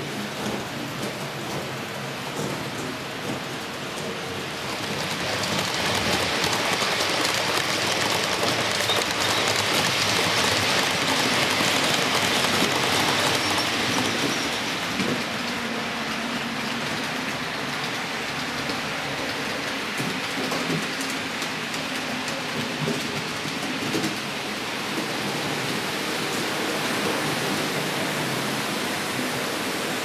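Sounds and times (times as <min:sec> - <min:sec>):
model train wheels on rails: 0:00.0 - 0:30.0.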